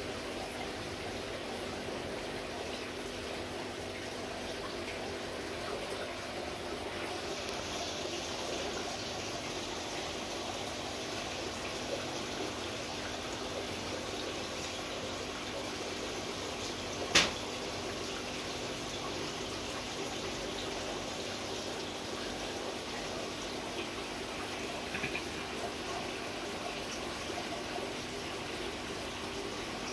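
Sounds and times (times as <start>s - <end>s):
aquarium filter bubbling water: 0.0s - 29.9s
faint steady hum: 0.0s - 29.9s.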